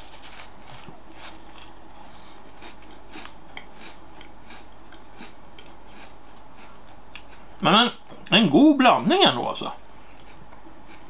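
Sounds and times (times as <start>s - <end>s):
person chewing biscuit crunching: 0.0s - 8.3s, 10.0s - 11.0s
steady low hum: 0.0s - 11.0s.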